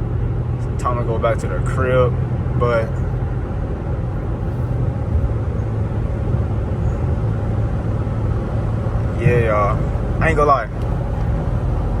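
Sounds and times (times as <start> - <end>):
car engine humming: 0.0 - 12.0
road noise: 0.0 - 12.0.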